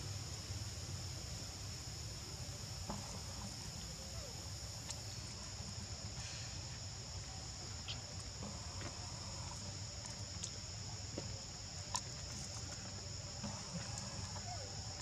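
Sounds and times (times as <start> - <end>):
forest insects chorus: 0.0 - 15.0.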